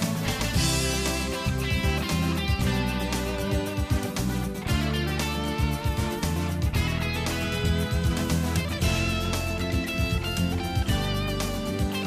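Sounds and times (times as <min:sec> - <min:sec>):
instrumental guitar music: 0:00.0 - 0:12.0.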